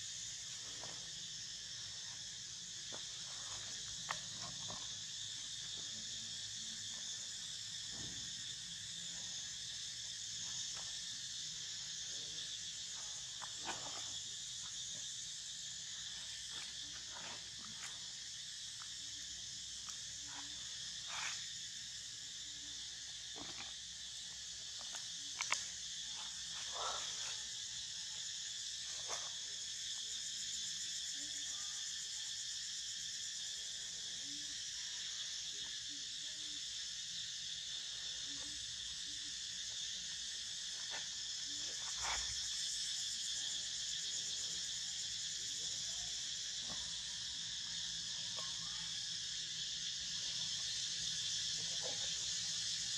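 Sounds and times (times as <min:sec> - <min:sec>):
high insect chorus droning: 0:00.0 - 0:52.9.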